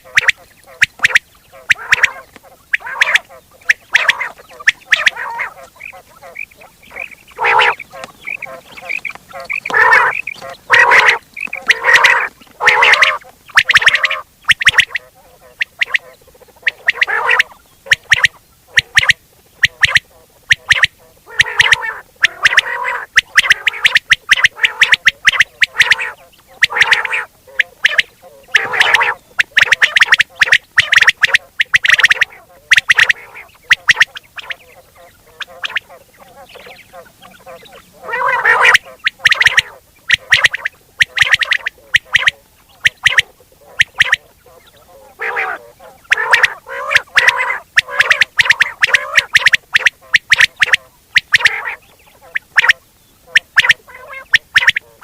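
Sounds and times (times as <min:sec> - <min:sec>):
quail calling: 0:00.0 - 0:55.0.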